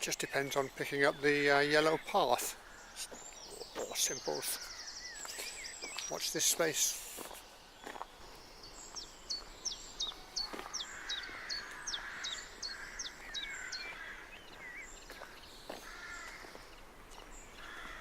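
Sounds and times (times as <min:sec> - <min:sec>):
harsh low bird calls: 0:00.0 - 0:18.0.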